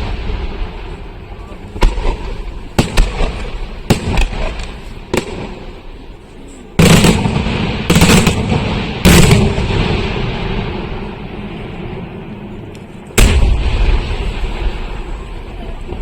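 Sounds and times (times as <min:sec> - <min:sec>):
fireworks heavy booms: 0:00.0 - 0:16.0
fireworks sharp cracks: 0:00.0 - 0:16.0.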